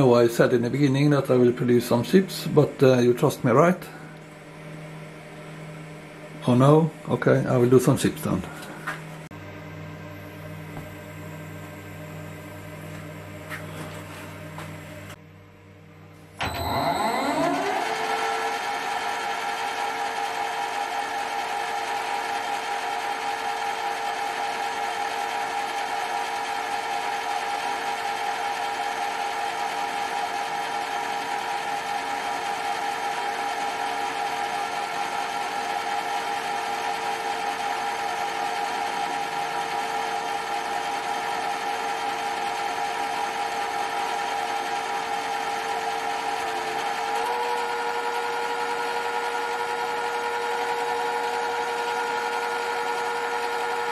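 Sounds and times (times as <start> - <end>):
lathe spindle whining: 1.7 - 15.2, 16.4 - 53.9.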